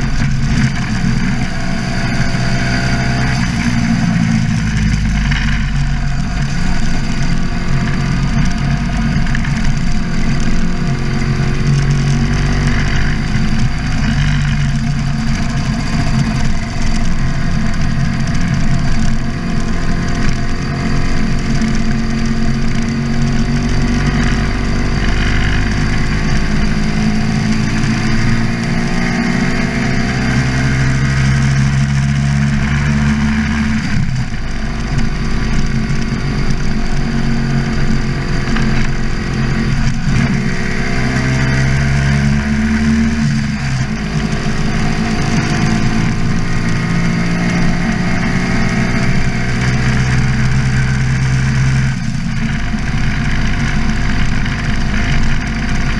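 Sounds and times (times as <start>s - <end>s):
motorcycle engine shifting gears: 0.0s - 55.9s.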